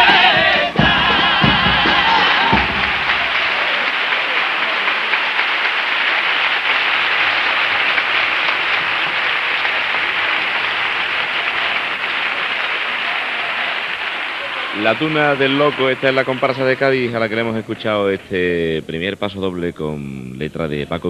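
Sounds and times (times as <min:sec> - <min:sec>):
large audience applauding: 0:00.0 - 0:18.8.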